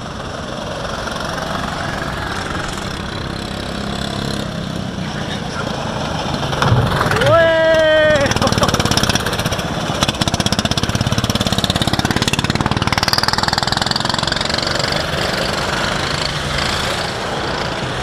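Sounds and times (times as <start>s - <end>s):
go-kart engines running: 0.0s - 18.0s.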